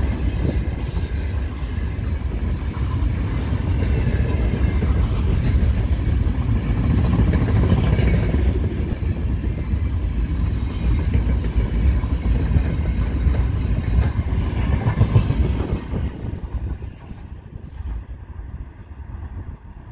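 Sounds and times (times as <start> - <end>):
steel train wheels rumbling on rails: 0.0 - 19.9.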